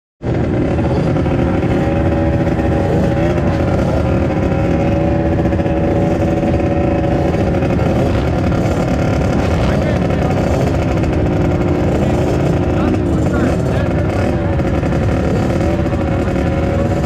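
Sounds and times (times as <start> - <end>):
dirt bike engine running: 0.2 - 17.0
heavy low rumble: 0.2 - 17.0.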